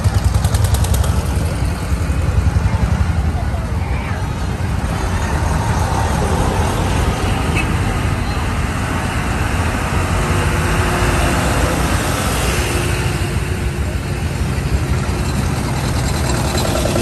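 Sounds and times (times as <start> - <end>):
tractor engines passing: 0.0 - 17.0.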